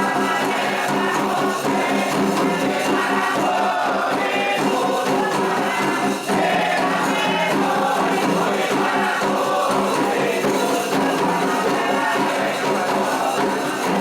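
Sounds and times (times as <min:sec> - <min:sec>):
group of voices singing: 0:00.0 - 0:14.0
jingling hand percussion: 0:00.0 - 0:14.0.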